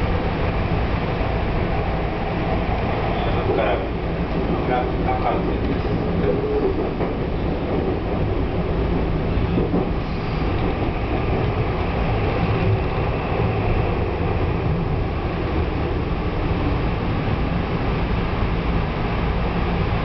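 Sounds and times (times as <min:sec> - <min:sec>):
train wheels and motors: 0:00.0 - 0:20.0.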